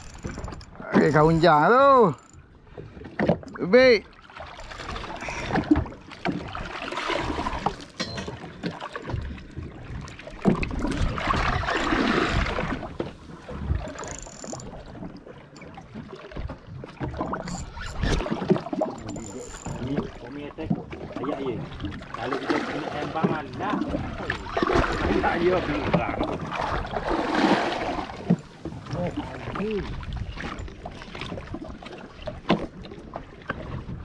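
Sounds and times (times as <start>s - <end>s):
water sloshing against boat hull: 0.0s - 34.0s.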